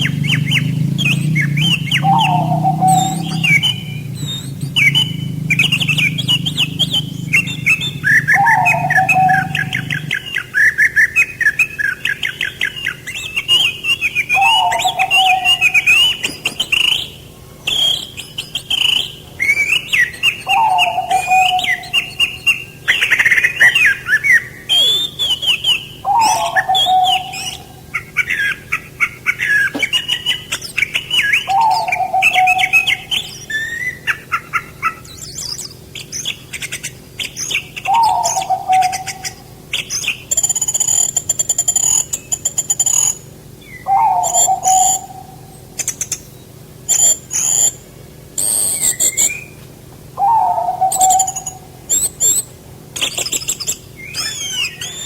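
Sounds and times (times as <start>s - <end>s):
low falling bird call: 0.0s - 55.0s
low steady hum: 0.0s - 55.0s
songbirds singing: 0.0s - 55.0s.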